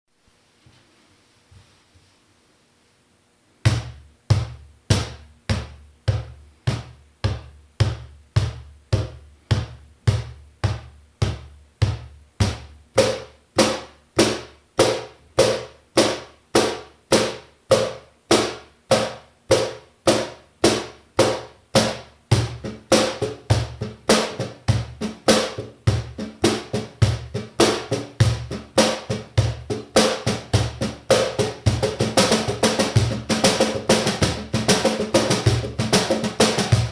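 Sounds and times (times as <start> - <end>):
cajon played by hand: 3.7 - 36.9.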